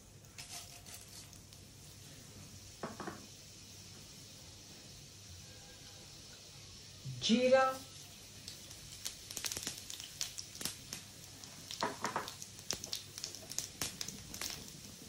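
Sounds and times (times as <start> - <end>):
seeds crackling in hot oil: 0.0 - 15.0.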